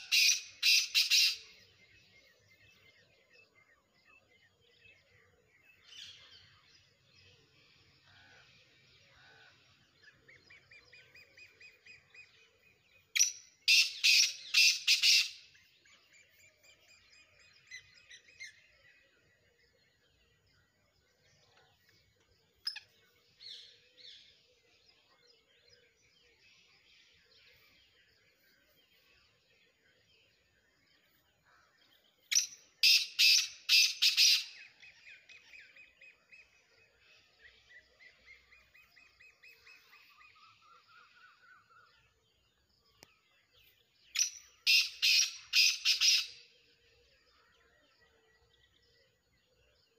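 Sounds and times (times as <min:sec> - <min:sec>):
faint bird chirping: 0:00.0 - 0:49.9.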